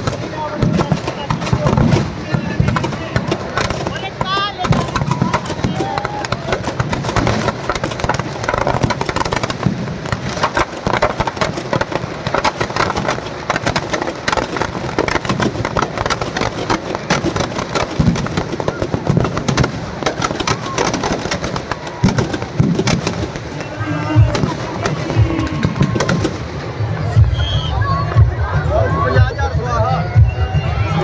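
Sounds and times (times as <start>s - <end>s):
firecrackers popping: 0.0s - 31.0s.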